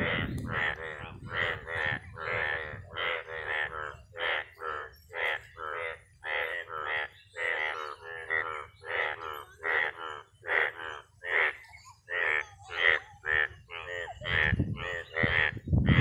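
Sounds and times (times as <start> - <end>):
chorus of frogs calling: 0.0 - 16.0.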